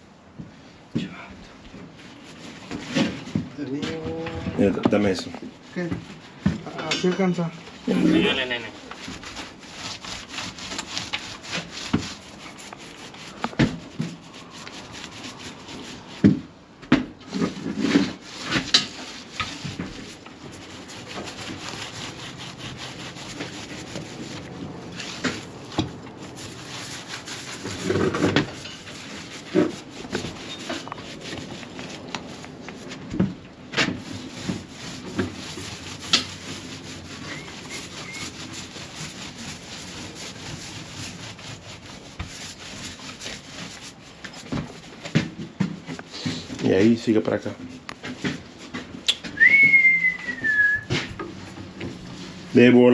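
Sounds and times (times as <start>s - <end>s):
rubbing and scraping: 0.4s - 52.9s.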